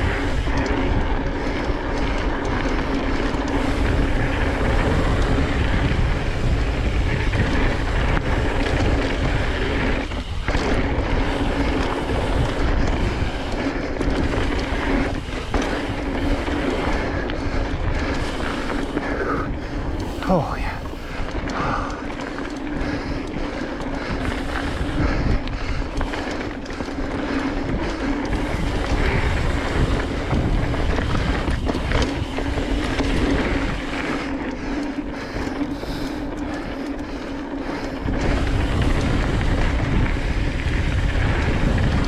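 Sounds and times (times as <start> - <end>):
bike tyres on dirt trail: 0.0 - 42.0
wind buffeting microphone: 0.0 - 42.0.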